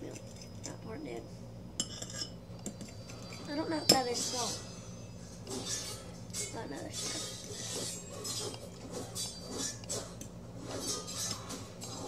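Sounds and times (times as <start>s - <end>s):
movie playing in another room: 0.0s - 12.0s
steady hum: 0.0s - 12.0s
spoon scraping a bowl: 1.8s - 12.0s.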